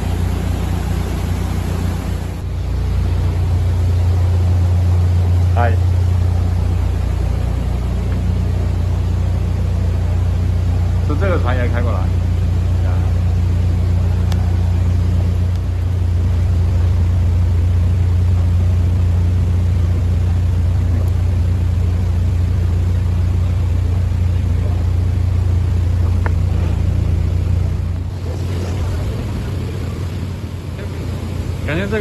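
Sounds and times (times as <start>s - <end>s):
diesel boat engine droning: 0.0s - 32.0s.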